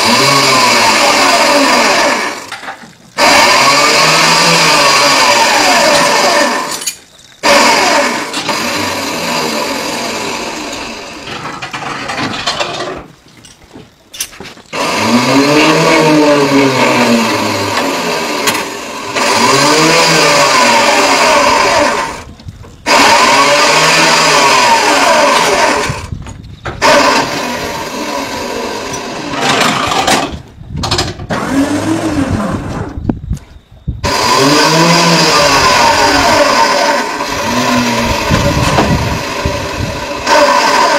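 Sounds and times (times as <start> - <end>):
power saw motor revving: 0.0 - 13.0, 14.7 - 33.0, 34.0 - 40.9.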